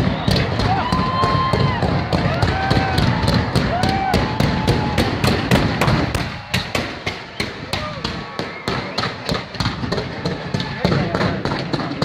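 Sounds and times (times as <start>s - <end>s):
fireworks cracking: 0.0s - 12.0s.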